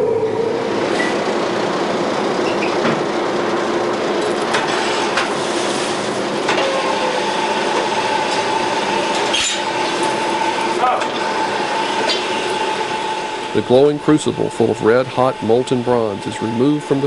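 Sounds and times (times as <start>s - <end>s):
furnace rushing with low hum: 0.0s - 17.0s.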